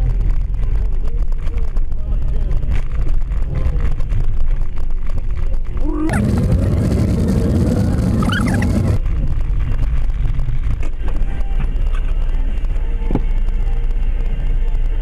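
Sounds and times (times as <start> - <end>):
car engine and tyre noise: 0.0 - 15.0
low rumble: 0.0 - 15.0.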